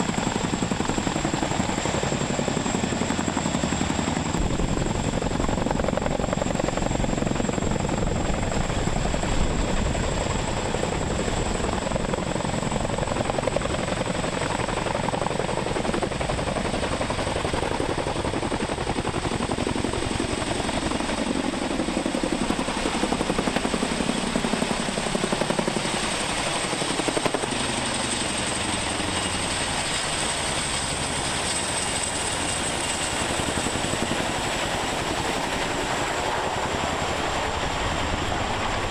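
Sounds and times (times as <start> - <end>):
helicopter rotors beating: 0.0 - 38.9.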